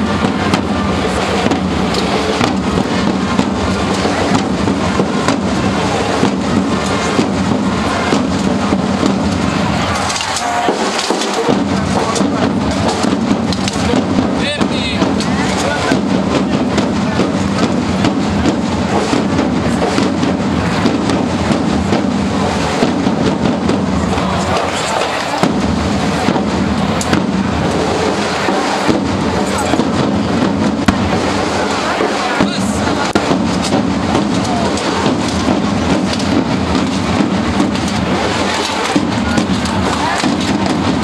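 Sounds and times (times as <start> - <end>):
crowd talking: 0.0 - 41.0
marching drums rolling: 0.0 - 41.0.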